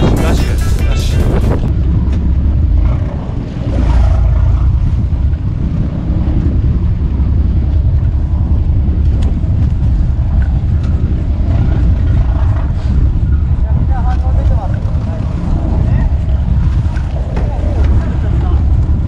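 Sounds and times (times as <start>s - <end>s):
boat on choppy sea: 0.0s - 19.0s
wind buffeting microphone: 0.0s - 19.0s.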